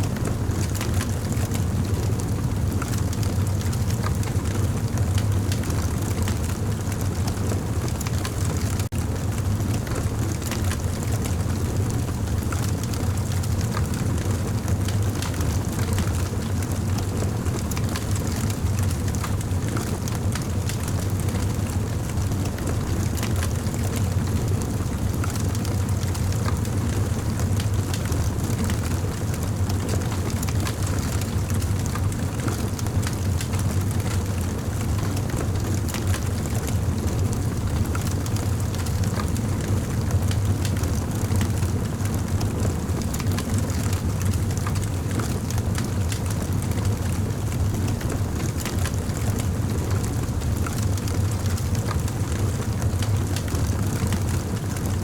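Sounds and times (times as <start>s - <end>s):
campfire low rumble: 0.0s - 55.0s
burning wood crackling and popping: 0.2s - 55.0s.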